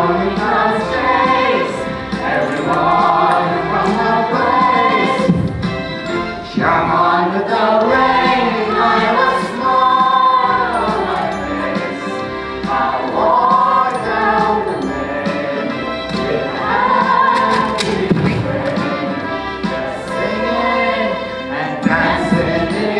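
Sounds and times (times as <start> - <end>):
children's chorus singing: 0.0 - 22.9.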